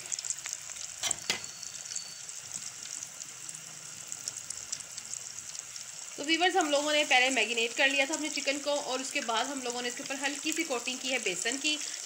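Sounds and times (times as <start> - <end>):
chicken sizzling in hot fat: 0.0 - 12.0.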